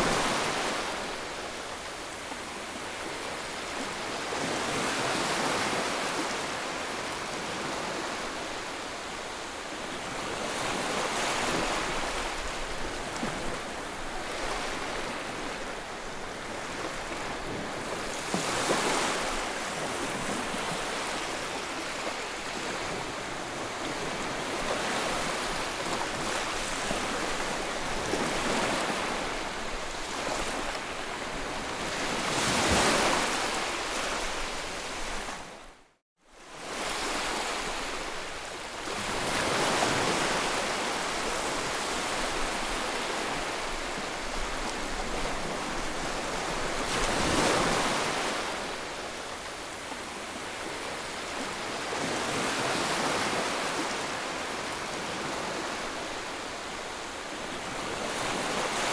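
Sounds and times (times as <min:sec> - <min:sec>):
waves breaking: 0:10.2 - 0:35.5, 0:36.6 - 0:58.9.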